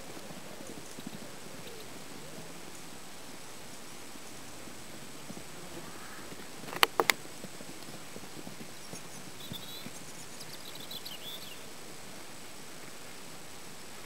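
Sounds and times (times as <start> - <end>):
hoofbeats on turf: 0.0 - 11.4
faint steady hiss: 0.0 - 14.0.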